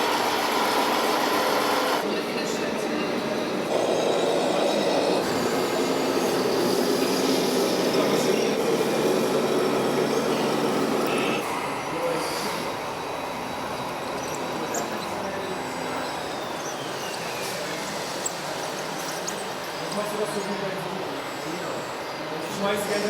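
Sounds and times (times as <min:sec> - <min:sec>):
small electric motors whirring: 0:03.6 - 0:23.0.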